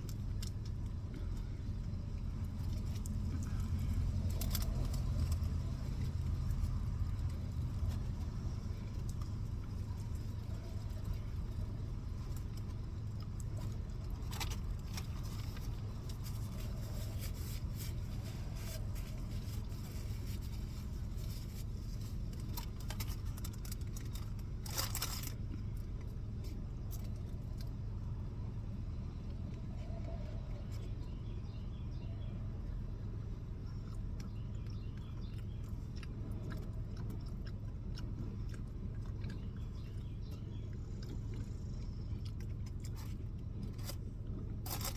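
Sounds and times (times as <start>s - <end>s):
food crunching while eating: 0.0s - 31.2s, 32.6s - 44.9s.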